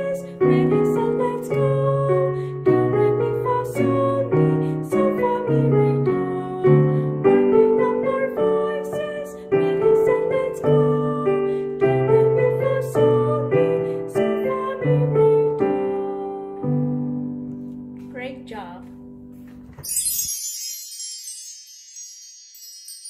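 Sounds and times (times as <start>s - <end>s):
piano chords with bass line: 0.0s - 20.7s.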